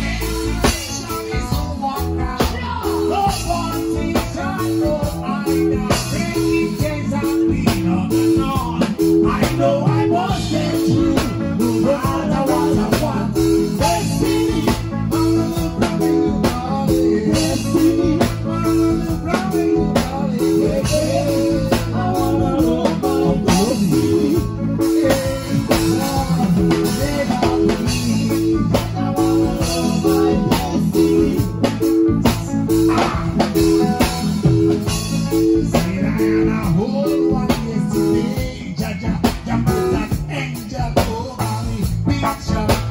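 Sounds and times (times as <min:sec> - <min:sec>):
bass guitar figure: 0:00.0 - 0:42.9
drum kit beat: 0:00.0 - 0:42.9
guitar: 0:00.0 - 0:42.9.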